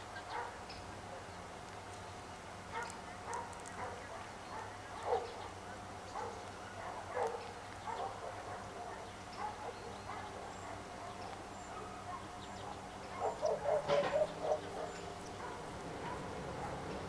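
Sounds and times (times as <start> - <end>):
dog barking: 0.3 - 0.6, 2.7 - 5.4, 6.1 - 16.9.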